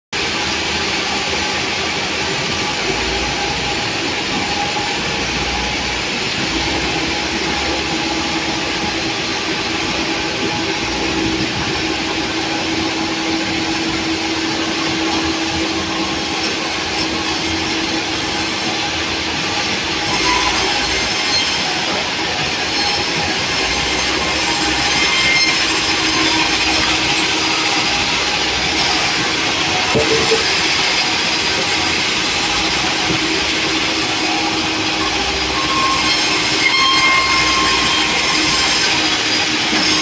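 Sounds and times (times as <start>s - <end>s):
sawmill saw running: 0.2s - 40.0s.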